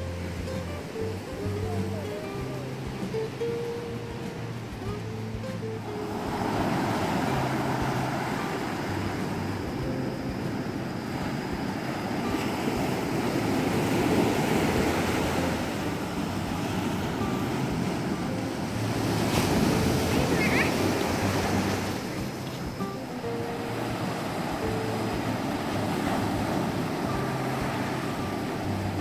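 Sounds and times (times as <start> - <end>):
waves breaking over rocks and sand: 0.0 - 29.0.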